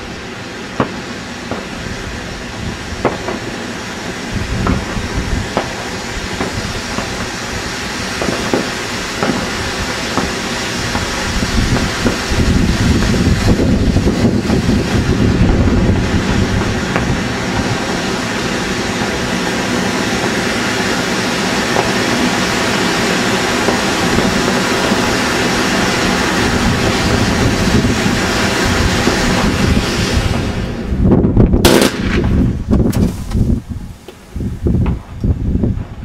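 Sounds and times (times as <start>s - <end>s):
firework fountains hissing: 0.0s - 36.0s.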